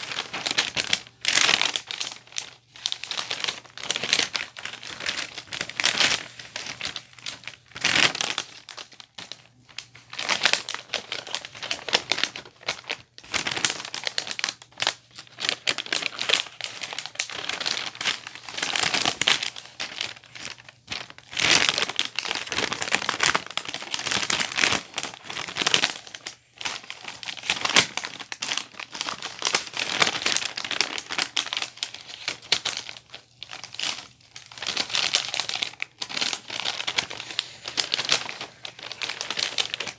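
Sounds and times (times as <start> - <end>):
wrapping paper rustling and crinkling: 0.0 - 39.9.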